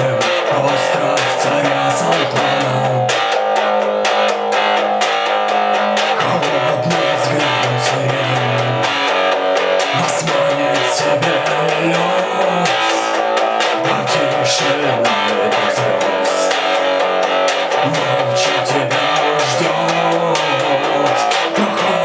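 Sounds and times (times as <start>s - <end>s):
rock guitars: 0.0s - 22.0s.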